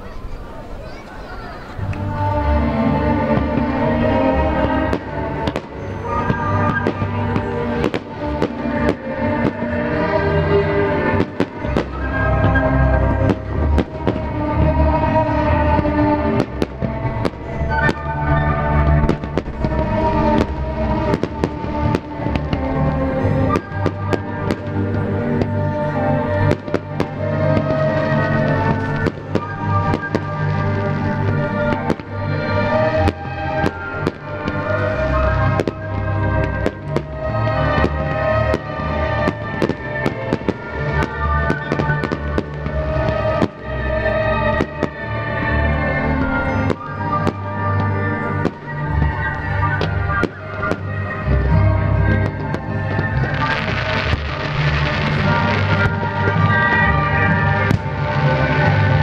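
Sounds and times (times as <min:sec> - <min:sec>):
music with sustained notes: 0:00.0 - 0:59.0
fireworks bursting and crackling: 0:00.8 - 0:59.0.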